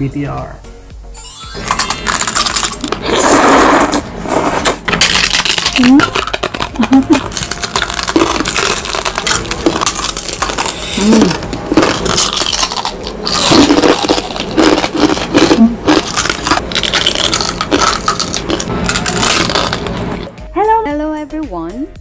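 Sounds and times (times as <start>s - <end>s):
crunching and chewing food: 1.6s - 4.0s, 4.6s - 20.3s.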